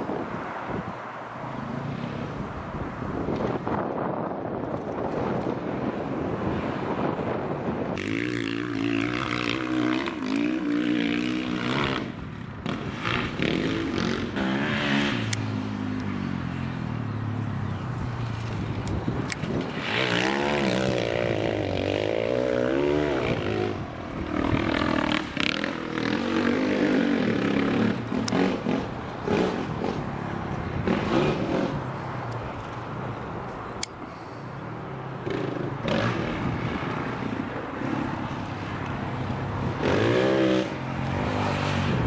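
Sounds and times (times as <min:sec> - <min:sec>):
motorcycle engines revving: 0:00.0 - 0:42.0.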